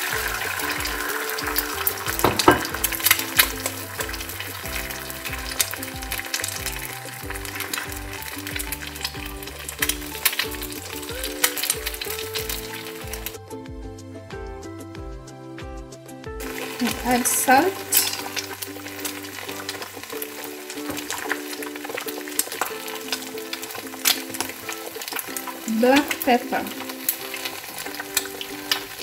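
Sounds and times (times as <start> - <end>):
eggs sizzling in oil: 0.0 - 13.8, 16.4 - 29.0
background music: 0.0 - 29.0.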